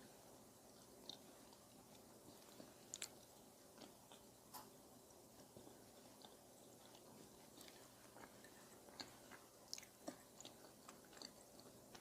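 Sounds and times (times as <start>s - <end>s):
chewing with mouth clicks: 0.7s - 12.0s.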